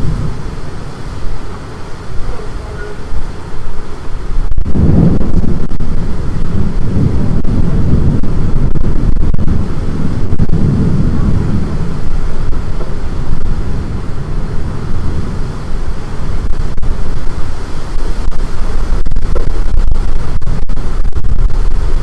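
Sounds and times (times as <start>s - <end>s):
storm wind gusting on microphone: 0.0s - 22.0s.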